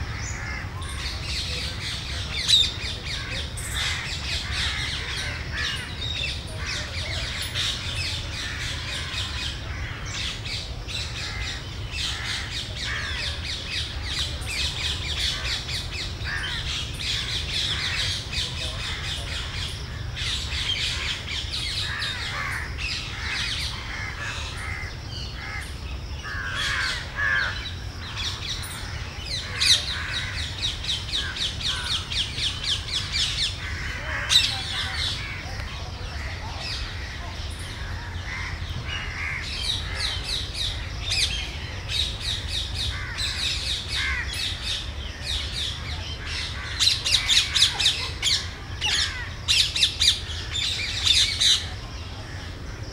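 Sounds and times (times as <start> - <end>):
birds calling and chattering: 0.0 - 52.9.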